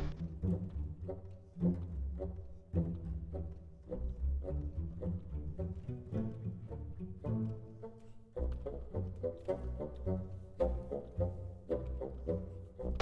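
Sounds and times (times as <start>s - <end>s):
low bowed strings music: 0.0s - 13.0s.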